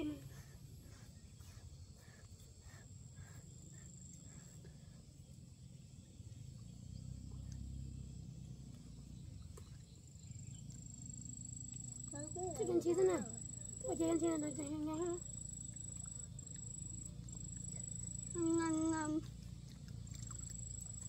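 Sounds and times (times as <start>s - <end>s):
insect trill: 0.0s - 21.0s.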